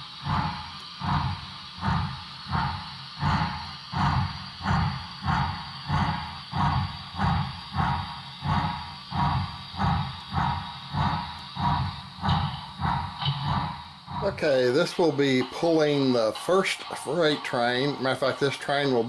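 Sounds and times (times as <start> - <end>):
model train steam chuffs from speaker: 0.0 - 19.0.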